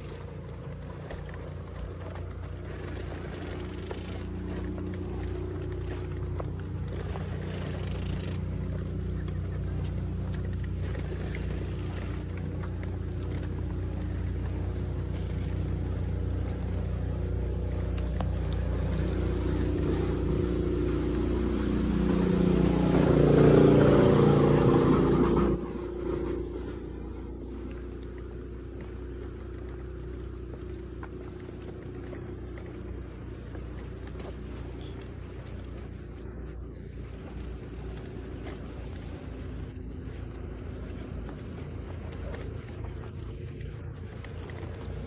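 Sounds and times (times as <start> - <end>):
motor vehicle running: 0.0 - 45.0.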